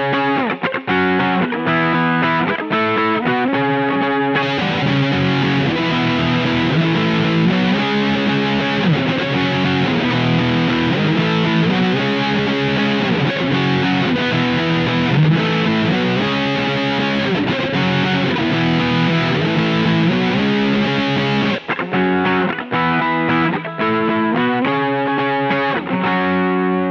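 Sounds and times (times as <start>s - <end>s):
fuzz electric guitar riff: 0.0s - 26.9s.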